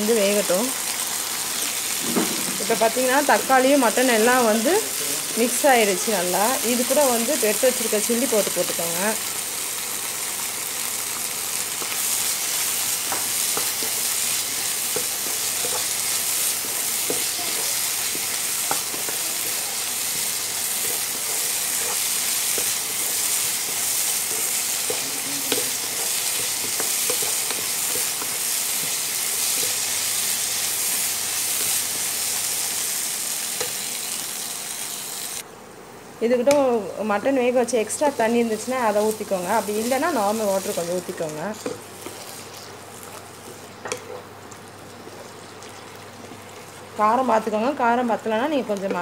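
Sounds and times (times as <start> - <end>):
food sizzling in a pan: 0.0 - 35.4, 36.5 - 49.0.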